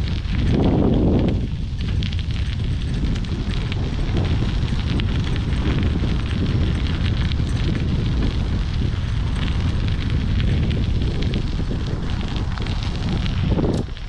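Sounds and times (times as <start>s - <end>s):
bicycle tyres crackling over trail: 0.0s - 14.0s
wind buffeting microphone: 0.0s - 14.0s.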